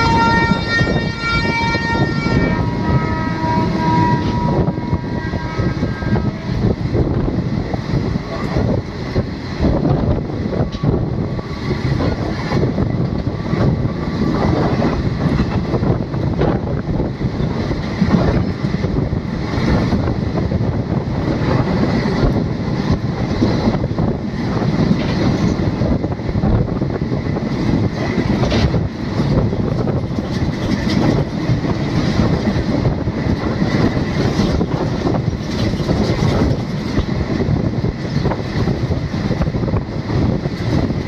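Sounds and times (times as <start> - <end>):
train wheels rumbling on rails: 0.0 - 41.0
clickety-clack from track: 5.6 - 41.0.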